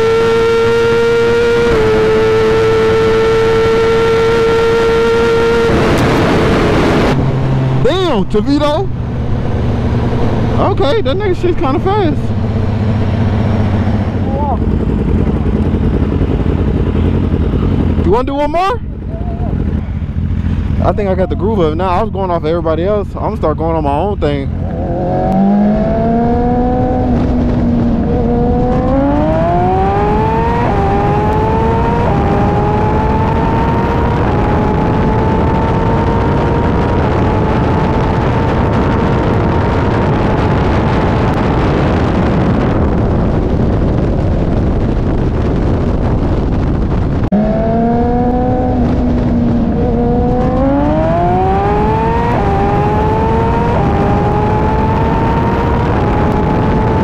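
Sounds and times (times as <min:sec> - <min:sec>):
motorcycle engine accelerating: 0:00.0 - 0:57.0
wind roar: 0:00.0 - 0:57.0.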